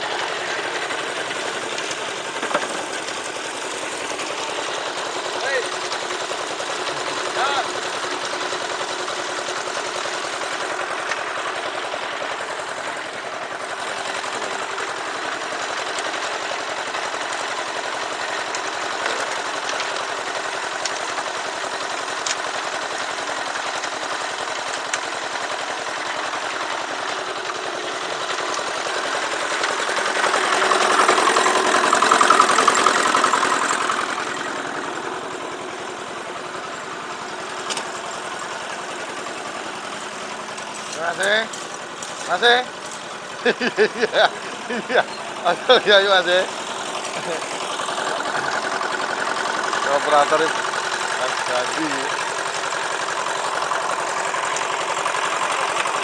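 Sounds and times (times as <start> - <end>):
concrete mixer engine running: 0.0 - 56.0.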